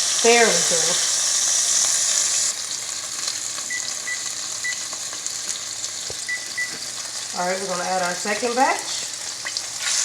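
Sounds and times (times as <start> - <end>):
chicken frying in oil: 0.0 - 10.0.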